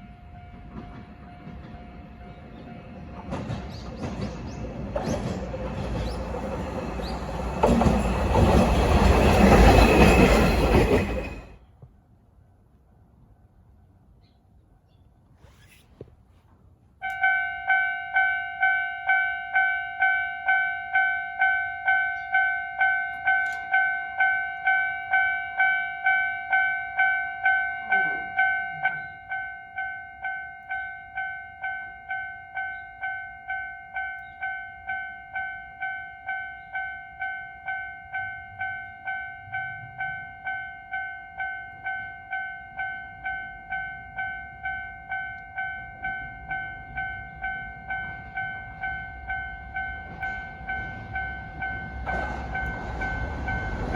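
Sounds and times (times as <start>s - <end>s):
level crossing warning bell: 0.0s - 11.5s, 17.0s - 53.9s.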